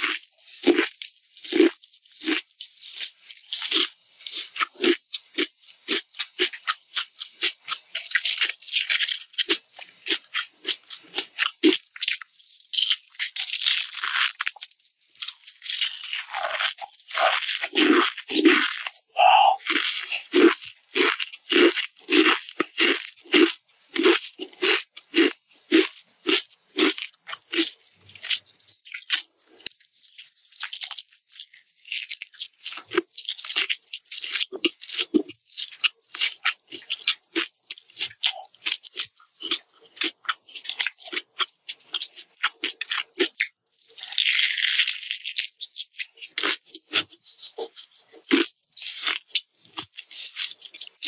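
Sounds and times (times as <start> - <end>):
chewing crunchy potato chips: 0.0 - 51.0.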